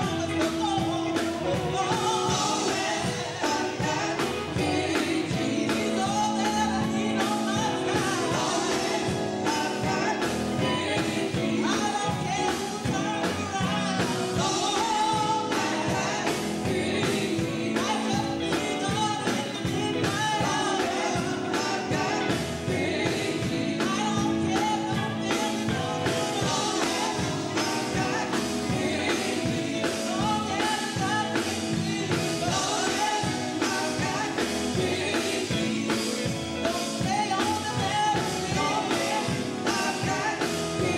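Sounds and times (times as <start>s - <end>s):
band playing steady beat: 0.0s - 40.9s
women singing gospel: 0.0s - 40.9s.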